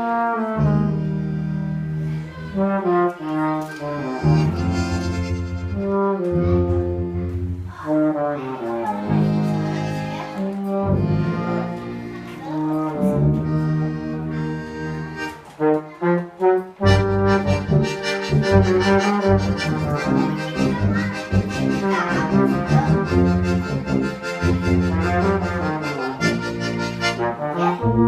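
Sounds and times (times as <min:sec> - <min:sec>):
brass instruments playing chords: 0:00.0 - 0:28.0.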